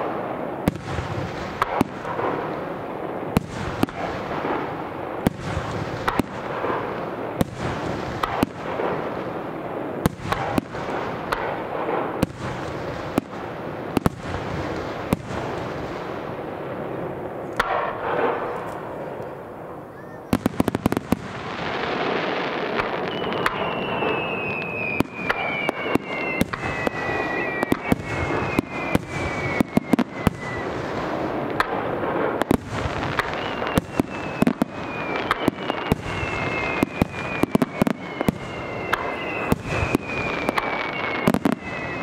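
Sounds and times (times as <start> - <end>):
rapid firework cracks: 0.0 - 16.2, 17.4 - 19.3, 20.3 - 42.0.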